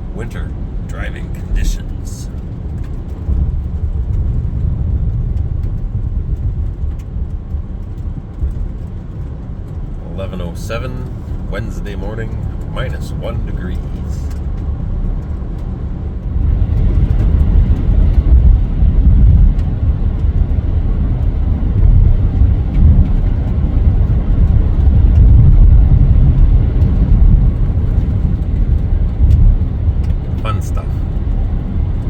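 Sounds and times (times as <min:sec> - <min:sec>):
car road and engine rumble: 0:00.0 - 0:32.0.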